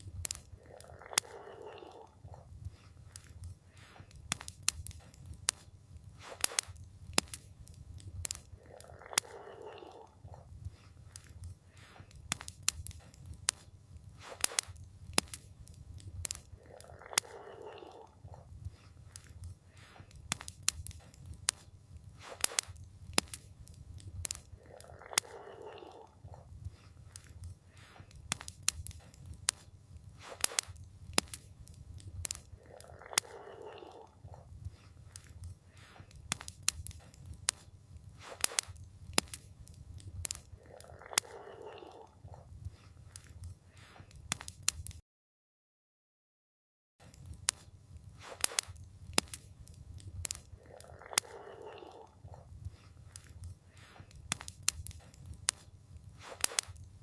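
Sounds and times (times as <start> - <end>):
campfire crackling and popping: 0.0 - 45.0, 47.0 - 57.0.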